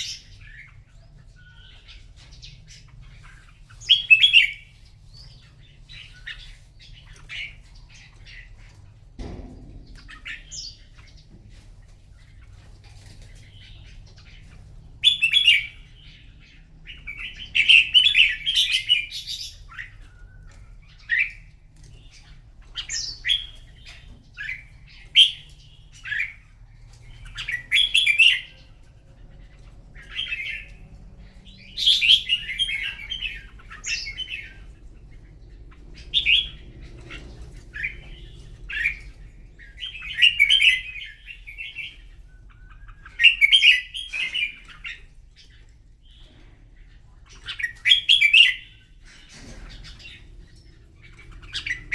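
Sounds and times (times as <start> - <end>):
bird warbling song: 0.0 - 51.9.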